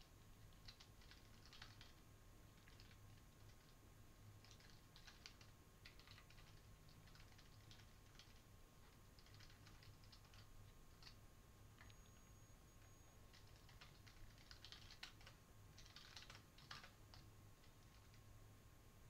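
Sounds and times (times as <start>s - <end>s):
low steady hum: 0.0s - 19.0s
typing on computer keyboard: 0.4s - 3.8s, 4.4s - 11.2s, 12.9s - 18.2s.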